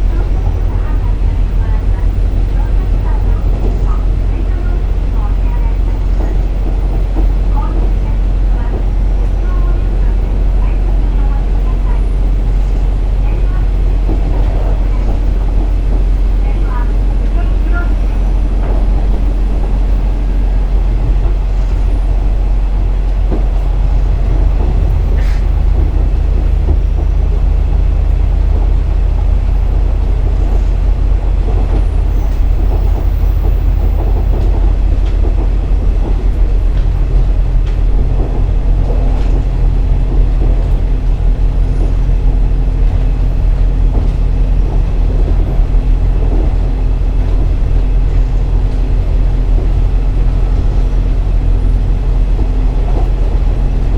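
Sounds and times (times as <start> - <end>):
diesel engine drone: 0.0 - 53.9
wheels rumbling on rail: 0.0 - 53.9.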